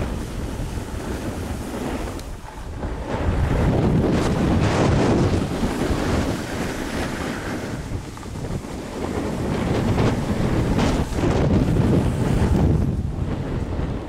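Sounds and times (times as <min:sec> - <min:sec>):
snowboard sliding over snow: 0:00.0 - 0:14.0
wind buffeting microphone: 0:00.0 - 0:14.0.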